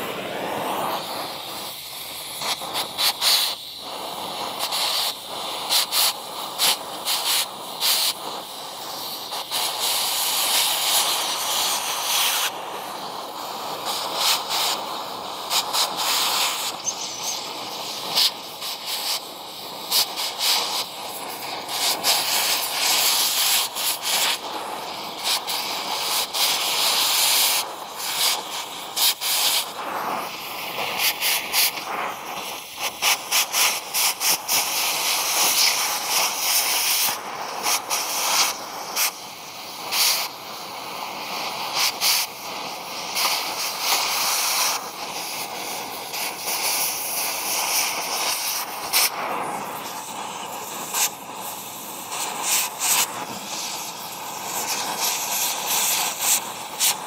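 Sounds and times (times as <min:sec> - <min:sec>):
cutting torch hissing: 0:00.0 - 0:57.0.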